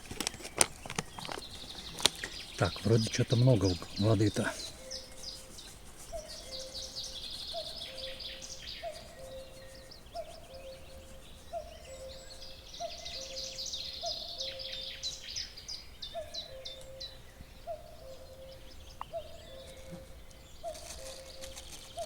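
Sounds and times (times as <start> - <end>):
high-pitched songbird song: 0.2 - 22.0.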